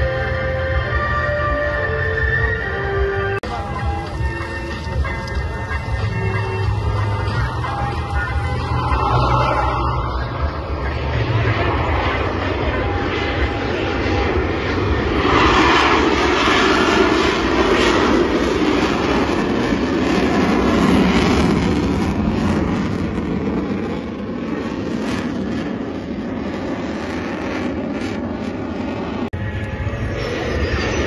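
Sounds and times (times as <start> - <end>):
jet engine climbing away: 0.0 - 31.0.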